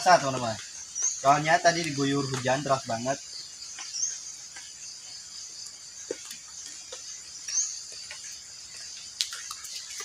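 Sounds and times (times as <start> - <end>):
chorus of insects: 0.0 - 10.0.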